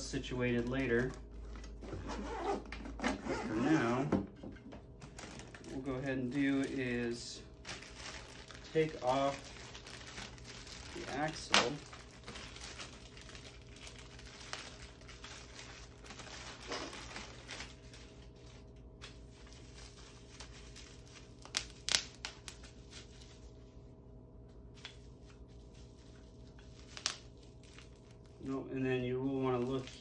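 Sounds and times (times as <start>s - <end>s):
packaging crinkling and rustling: 0.4s - 2.8s, 4.9s - 23.7s, 24.7s - 28.5s, 29.2s - 30.0s.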